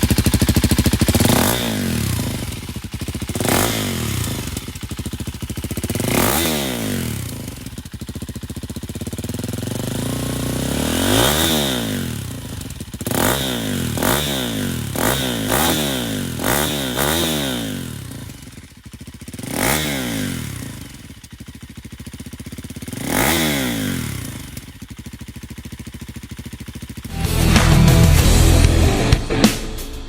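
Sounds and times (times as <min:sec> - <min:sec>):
motorcycle engine revving and idling: 0:00.0 - 0:29.2.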